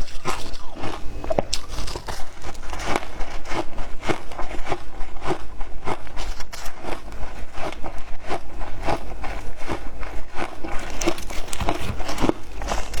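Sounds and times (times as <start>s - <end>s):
ice being chewed crunching: 0.0s - 13.0s.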